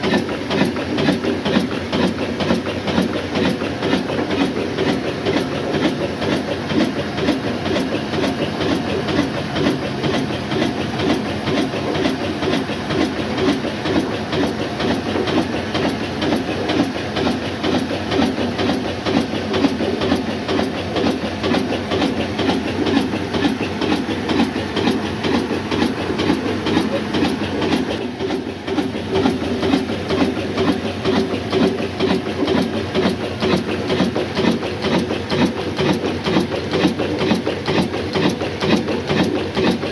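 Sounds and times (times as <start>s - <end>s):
diesel engine running: 0.0s - 39.9s
mechanical clatter: 0.0s - 39.9s.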